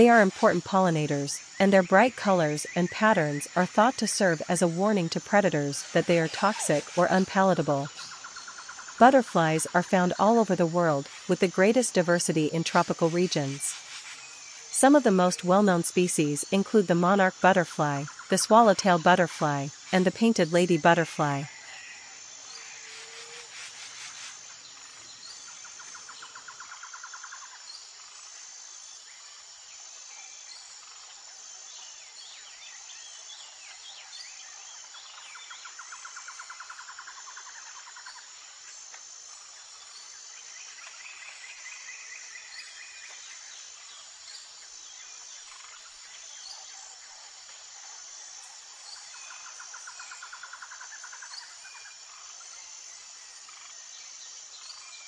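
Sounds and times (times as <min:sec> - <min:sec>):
insect drone: 0:00.0 - 0:55.0.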